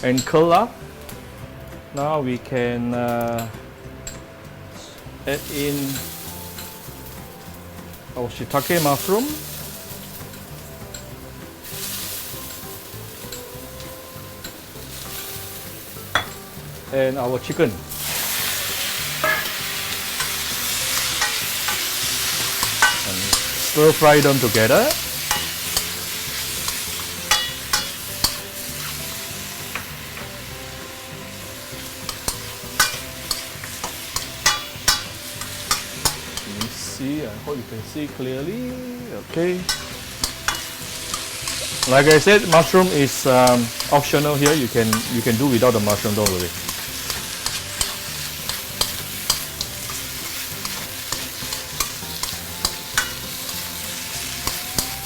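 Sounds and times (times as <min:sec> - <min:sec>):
food sizzling in hot oil: 0:03.1 - 0:55.0
utensil scraping a wok: 0:05.2 - 0:38.7, 0:39.5 - 0:55.0.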